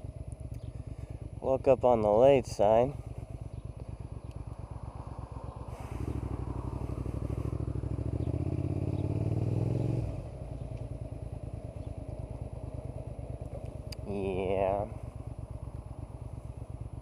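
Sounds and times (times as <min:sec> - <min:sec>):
motorcycle engine revving: 0:02.8 - 0:17.0.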